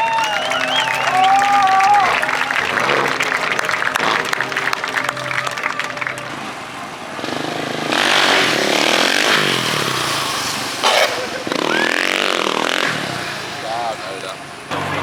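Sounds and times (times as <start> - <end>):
car engine revving hard: 2.5 - 15.0.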